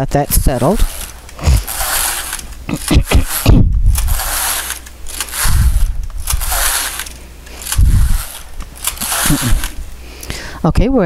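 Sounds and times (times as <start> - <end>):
knitting machine carriage clattering: 0.0 - 9.9.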